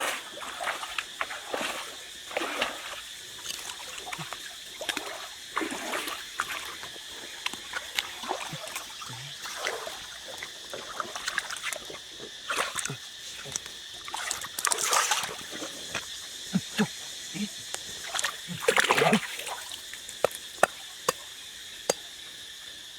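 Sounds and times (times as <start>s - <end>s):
water splashing and sloshing: 0.0s - 22.3s.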